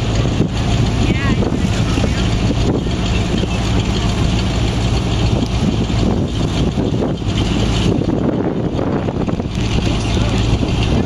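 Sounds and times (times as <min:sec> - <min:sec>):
hay baler engine running: 0:00.0 - 0:11.0.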